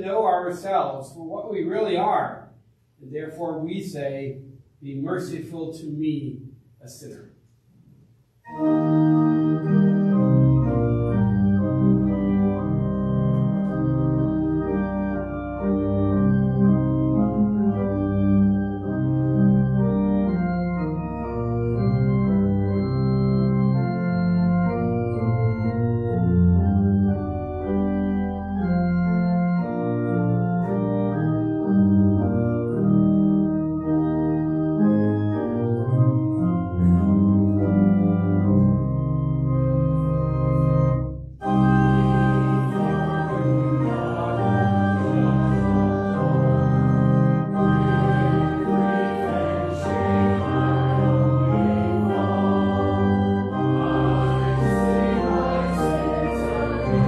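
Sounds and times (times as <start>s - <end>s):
pipe organ playing a hymn: 0.0s - 2.4s, 3.0s - 7.1s, 8.4s - 57.0s.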